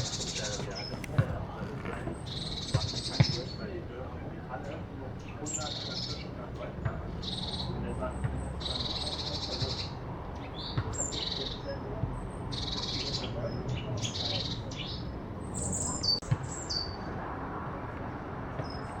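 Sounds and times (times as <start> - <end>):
songbirds scolding alarm calls: 0.0 - 3.7, 5.2 - 17.1.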